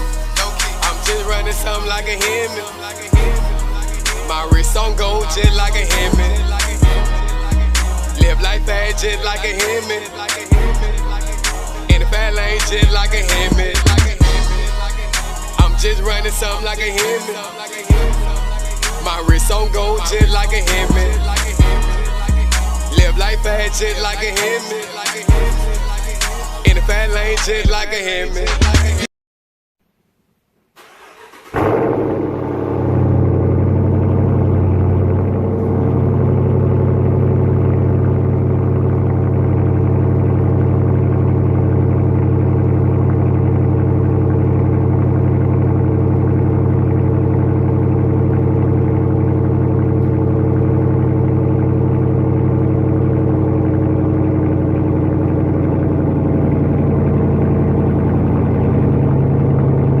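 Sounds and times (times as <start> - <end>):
car engine idling: 0.0 - 29.0, 30.8 - 60.0.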